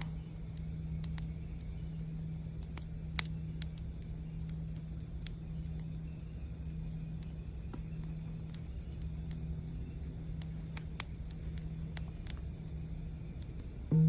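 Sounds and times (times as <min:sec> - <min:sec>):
campfire crackling: 0:00.0 - 0:14.0
singing bowl humming: 0:00.0 - 0:14.0.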